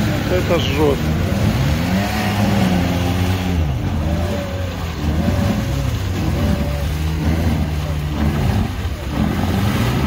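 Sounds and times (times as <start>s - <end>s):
engine revving hard in mud: 0.0s - 10.0s.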